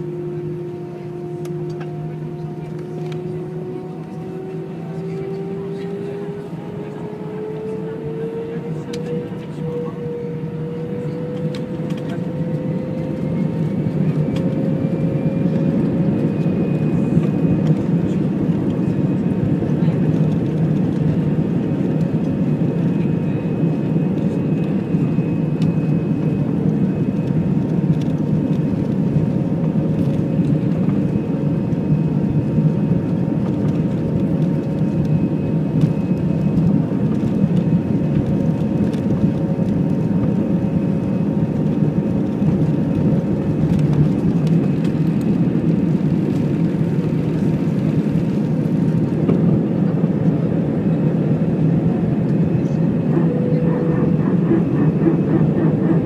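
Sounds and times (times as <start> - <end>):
jet engine noise in cabin: 0.0 - 56.0.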